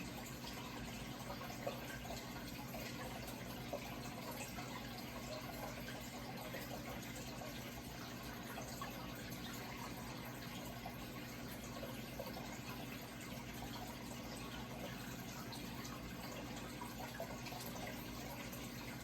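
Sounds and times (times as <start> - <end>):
water drips: 0.0 - 19.0
water trickling and splashing: 0.0 - 19.0.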